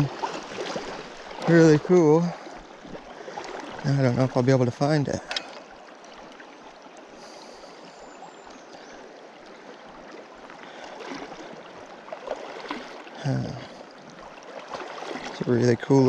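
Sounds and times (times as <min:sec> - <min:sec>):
river running over gravel: 0:00.0 - 0:16.0
water sloshing from wading: 0:00.0 - 0:16.0.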